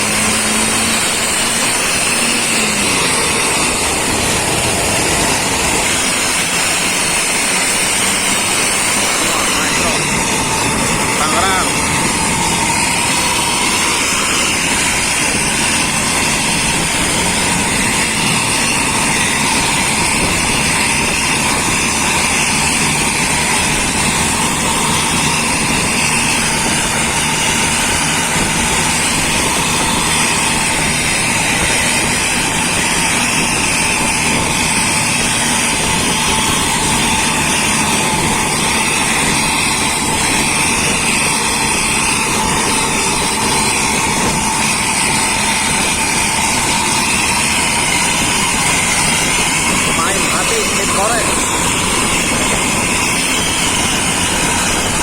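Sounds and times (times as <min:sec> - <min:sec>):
engine exhaust whooshing: 0:00.0 - 0:55.0.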